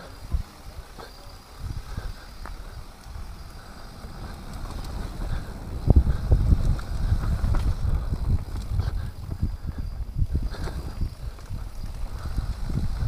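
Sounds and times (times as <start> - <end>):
bike knocking and rattling: 0.0 - 13.0
bike tyre rumble on dirt: 0.0 - 13.0
wind buffeting microphone: 0.0 - 13.0.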